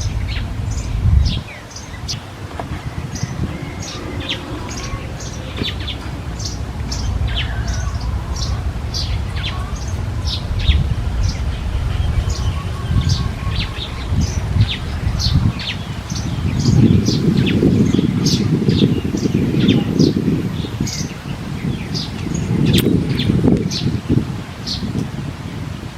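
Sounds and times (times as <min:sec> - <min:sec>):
low wind rumble: 0:00.0 - 0:25.9
small birds chirping: 0:00.0 - 0:25.9.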